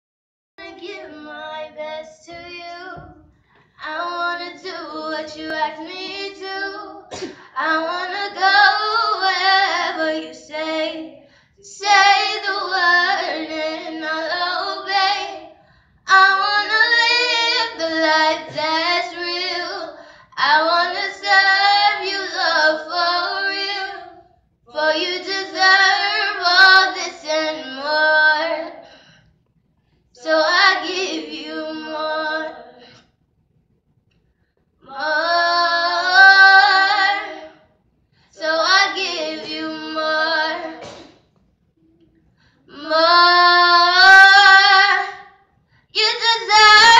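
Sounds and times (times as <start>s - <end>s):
girl singing unaccompanied: 0.6s - 28.8s, 30.2s - 32.8s, 34.8s - 37.5s, 38.4s - 41.0s, 42.7s - 45.3s, 46.0s - 46.9s.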